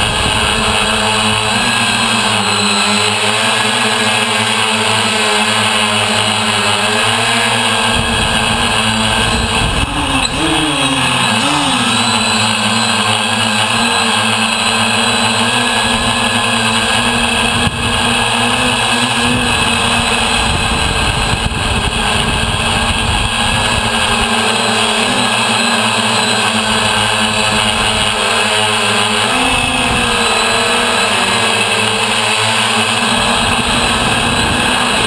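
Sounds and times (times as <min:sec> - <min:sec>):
drone propellers whirring: 0:00.0 - 0:35.0.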